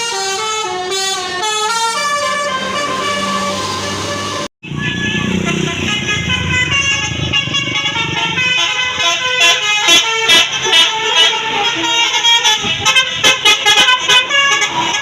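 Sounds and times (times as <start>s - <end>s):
bus engine running: 0.0s - 15.0s
bus multi-tone horn tune: 0.0s - 15.0s.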